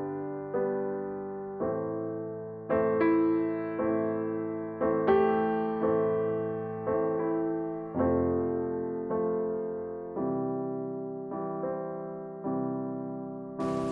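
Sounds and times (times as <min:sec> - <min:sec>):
slow solo piano music: 0:00.0 - 0:13.9.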